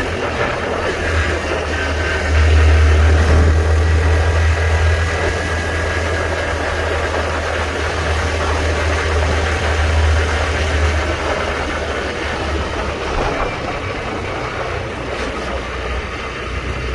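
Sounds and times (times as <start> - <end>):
motorcycle engine droning: 0.0 - 16.9
road noise: 0.0 - 16.9
wind noise: 0.0 - 16.9.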